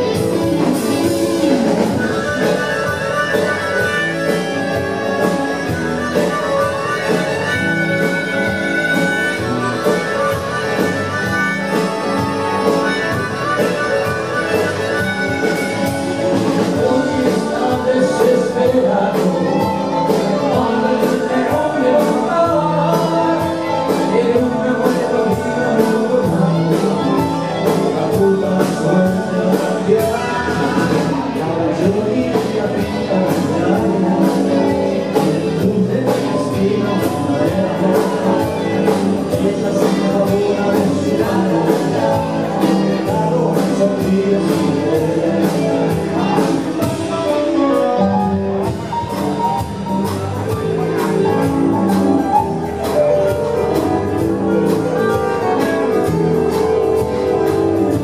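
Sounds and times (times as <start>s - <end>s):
drums steady beat: 0.0s - 58.0s
guitars: 0.0s - 58.0s
person singing: 0.0s - 58.0s.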